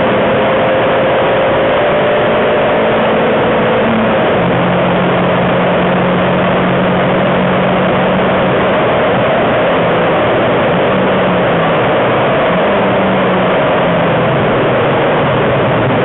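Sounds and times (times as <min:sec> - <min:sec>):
car engine at full throttle: 0:00.0 - 0:16.0
wind noise: 0:00.0 - 0:16.0.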